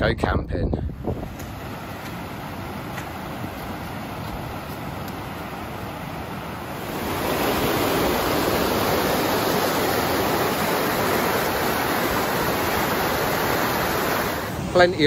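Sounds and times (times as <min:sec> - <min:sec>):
stream rushing over rocks: 0:01.4 - 0:15.0.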